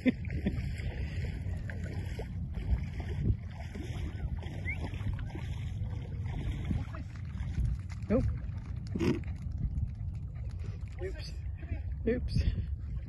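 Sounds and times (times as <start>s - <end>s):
low wind rumble: 0.0s - 13.0s
seawater lapping on shore: 0.0s - 13.0s.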